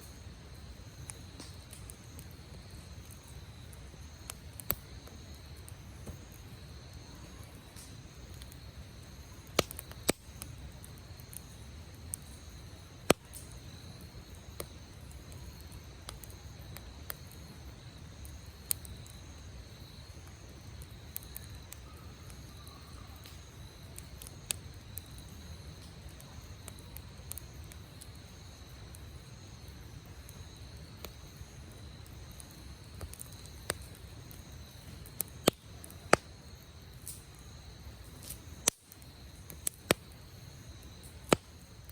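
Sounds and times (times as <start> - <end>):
campfire crackling and popping: 0.0 - 41.9.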